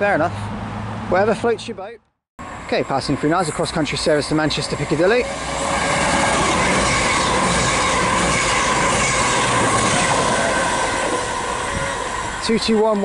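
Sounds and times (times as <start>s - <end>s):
train wheels rushing on rail: 2.5s - 13.0s.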